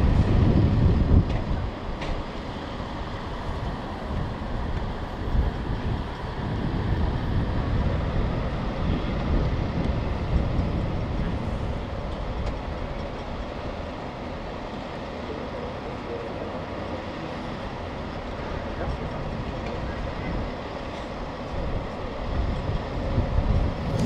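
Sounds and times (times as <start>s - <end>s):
low rumble of vehicle engines: 0.0s - 24.0s.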